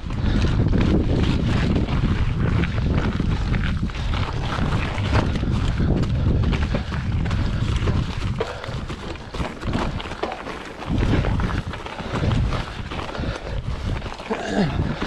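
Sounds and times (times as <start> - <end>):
bike rattling over rocks: 0.0 - 15.0
wind rumbling on microphone: 0.0 - 15.0.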